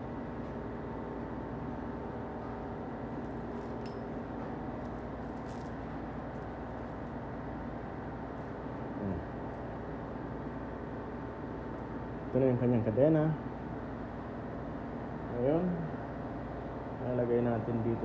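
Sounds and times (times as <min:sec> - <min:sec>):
mechanical hum: 0:00.0 - 0:18.0.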